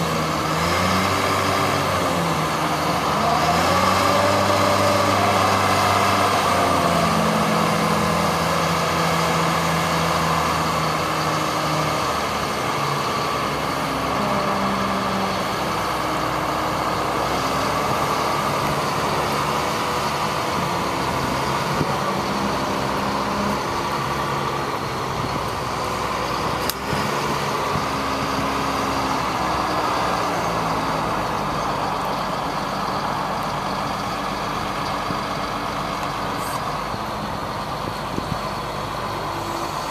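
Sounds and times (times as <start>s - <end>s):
truck engine running: 0.0s - 39.9s
steady whine: 1.2s - 39.9s.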